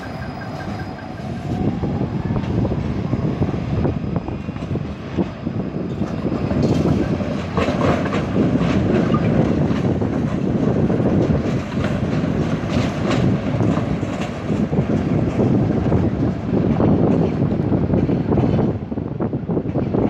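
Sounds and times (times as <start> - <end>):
wheels clacking: 0.0 - 2.6, 4.4 - 18.8
tram rumbling on rails: 0.0 - 20.0.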